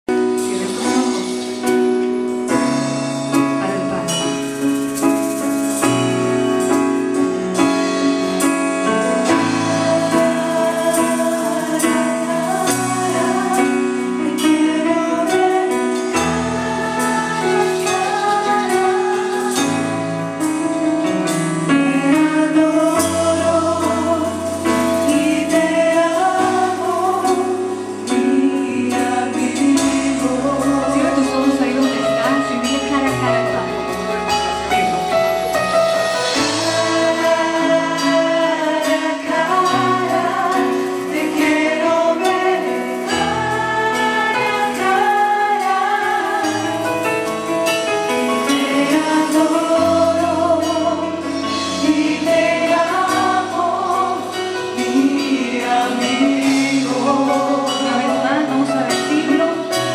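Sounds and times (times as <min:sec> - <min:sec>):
drums and congas beat: 0:00.0 - 0:59.9
sustained keyboard chords: 0:00.0 - 0:59.9
voices singing into microphones: 0:08.8 - 0:33.6, 0:34.2 - 0:59.9.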